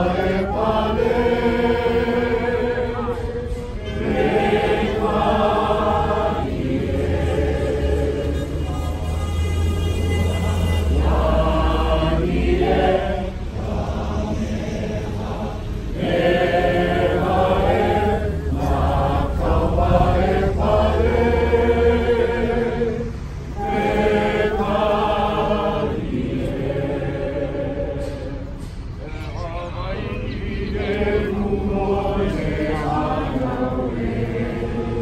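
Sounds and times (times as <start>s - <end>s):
crowd chanting: 0.0s - 28.7s, 29.4s - 35.0s.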